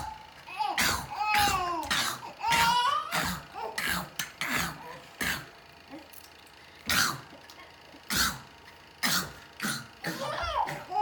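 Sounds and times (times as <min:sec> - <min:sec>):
child fake coughing: 0:00.0 - 0:05.6, 0:06.9 - 0:07.3, 0:08.1 - 0:11.0.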